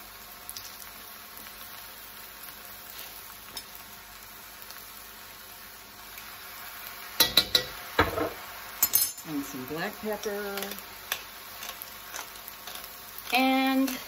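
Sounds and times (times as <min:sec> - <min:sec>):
noodles sizzling in a wok: 0:00.0 - 0:14.0.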